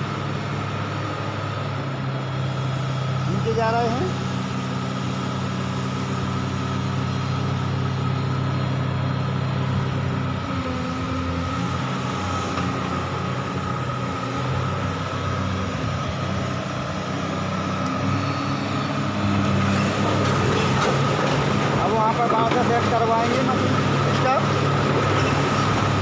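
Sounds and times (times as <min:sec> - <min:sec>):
excavator diesel engine: 0:00.0 - 0:26.0.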